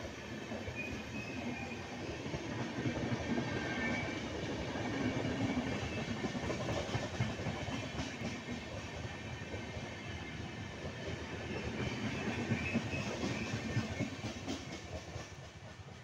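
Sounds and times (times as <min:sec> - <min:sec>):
train wheels rumbling and clattering: 0:00.0 - 0:16.0.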